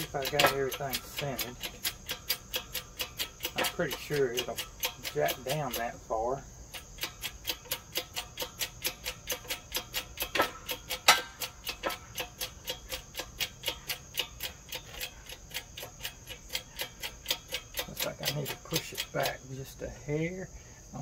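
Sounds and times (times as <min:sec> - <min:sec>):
rapid ticking: 0:00.0 - 0:20.0.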